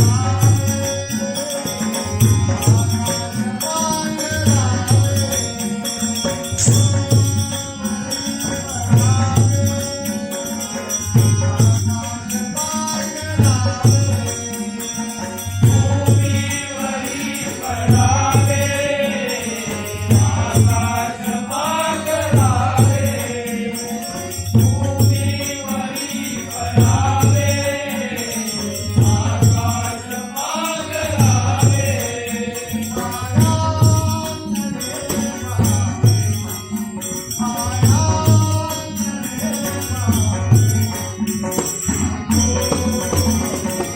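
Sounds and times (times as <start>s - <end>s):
solo voice singing: 0.0s - 14.6s, 15.6s - 36.3s
drum beating steadily: 0.0s - 43.9s
jingling percussion: 0.0s - 43.9s.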